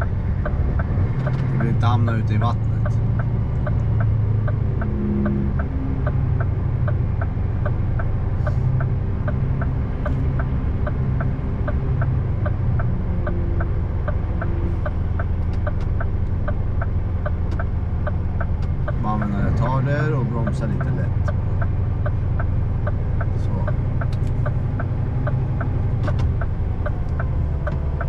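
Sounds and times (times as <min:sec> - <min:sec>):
truck engine droning: 0:00.0 - 0:28.0
sharp regular ticking: 0:00.1 - 0:28.0.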